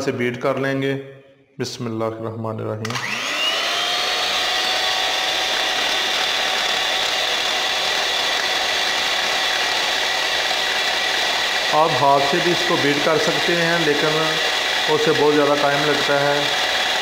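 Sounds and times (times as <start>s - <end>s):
electric hand mixer whining: 2.9s - 17.0s.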